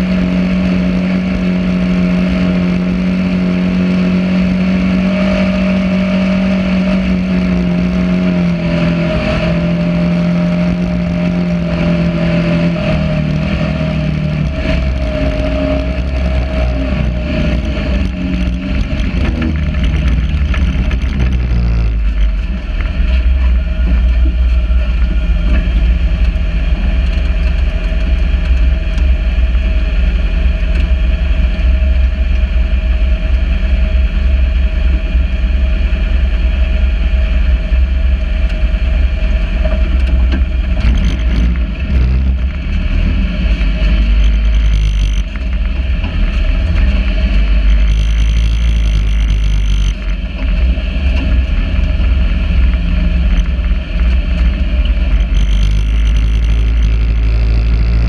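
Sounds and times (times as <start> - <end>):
buggy engine running: 0.0 - 58.0
engine idling with low drone: 0.0 - 58.0.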